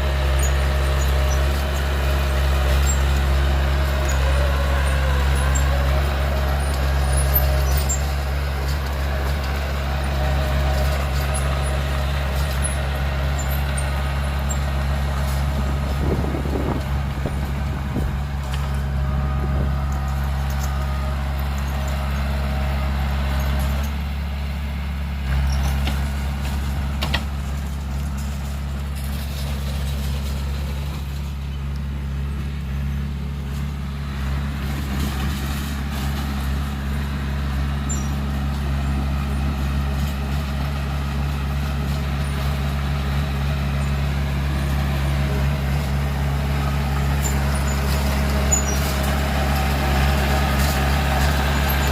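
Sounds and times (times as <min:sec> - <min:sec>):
heavy diesel engine drone: 0:00.0 - 0:51.9.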